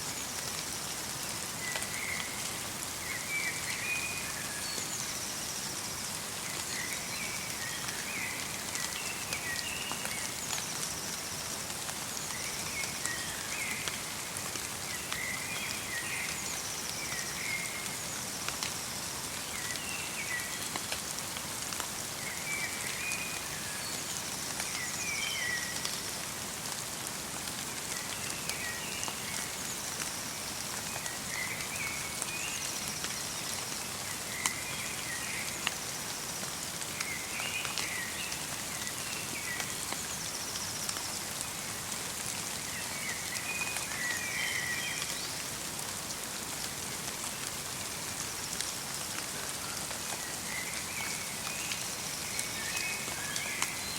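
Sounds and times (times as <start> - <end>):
light rain pattering: 0.0 - 53.9.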